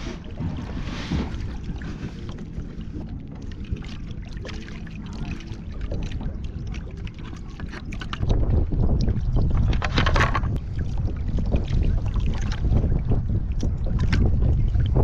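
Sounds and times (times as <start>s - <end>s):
steady low rumble: 0.0s - 15.0s
water sloshing against kayak hull: 0.0s - 15.0s.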